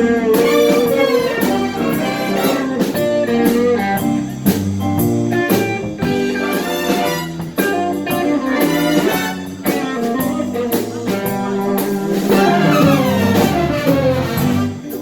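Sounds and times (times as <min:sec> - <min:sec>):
blues guitar notes: 0:00.0 - 0:15.0
steady drum beat: 0:00.0 - 0:15.0.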